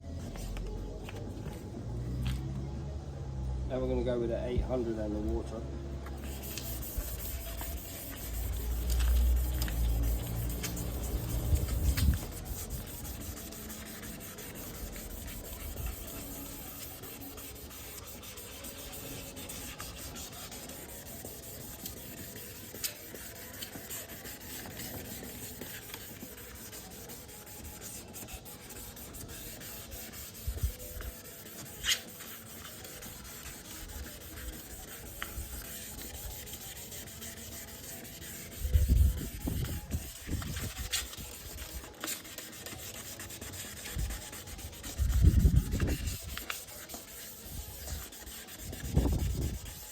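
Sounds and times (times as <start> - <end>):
wet sanding scrape: 6.2 - 49.9.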